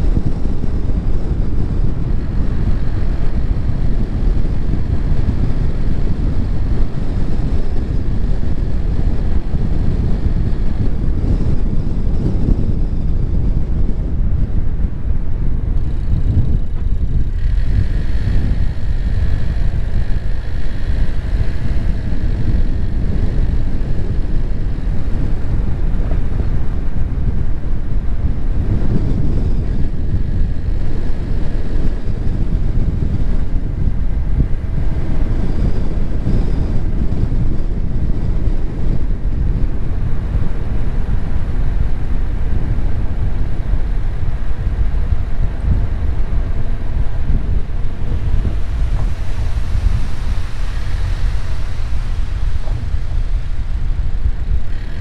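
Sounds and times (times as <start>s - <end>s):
road and wind rumble: 0.0s - 55.0s
wind buffeting microphone: 0.0s - 55.0s.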